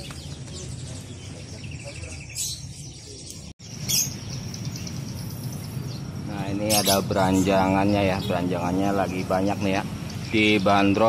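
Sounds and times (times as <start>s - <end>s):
small songbirds chirping: 0.0s - 11.0s.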